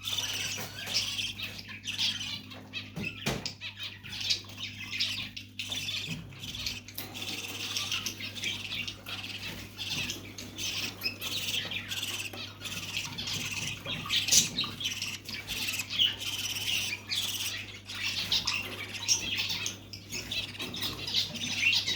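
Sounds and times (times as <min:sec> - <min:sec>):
birds squeaky chattering calls: 0:00.0 - 0:21.9.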